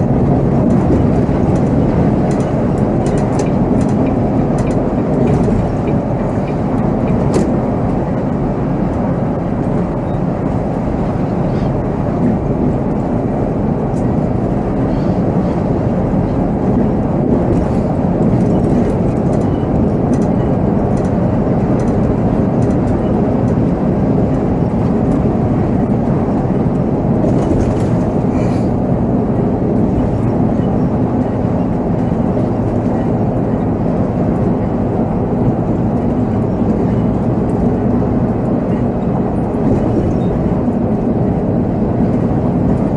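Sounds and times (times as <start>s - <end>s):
diesel engine drone: 0.0s - 42.9s.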